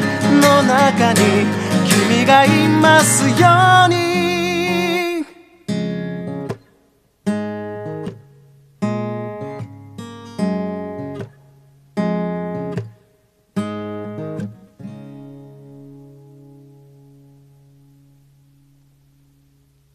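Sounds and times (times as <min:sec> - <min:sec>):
acoustic guitar chords ringing: 0:00.0 - 0:19.9.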